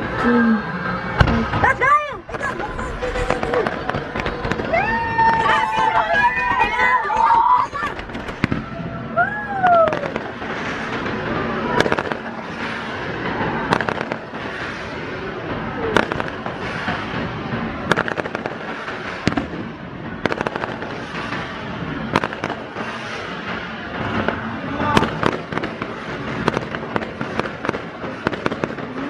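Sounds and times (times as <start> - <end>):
fireworks bursting with bangs: 0.0 - 29.0
fireworks crackle: 0.0 - 29.0.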